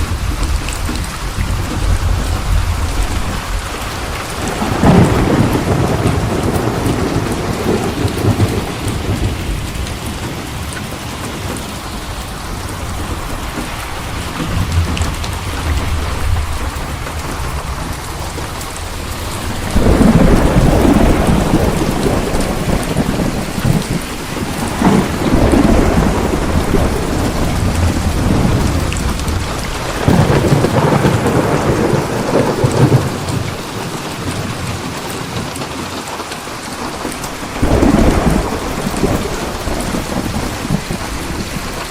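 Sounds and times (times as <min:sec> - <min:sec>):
rolling thunder: 0:00.0 - 0:36.0, 0:36.6 - 0:41.9
heavy rain: 0:00.0 - 0:41.9.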